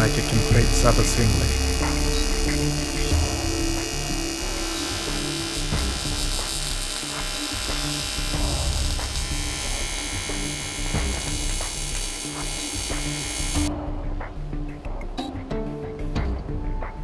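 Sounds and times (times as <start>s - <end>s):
welding arc buzzing: 0.0s - 13.7s
background music: 0.0s - 17.0s.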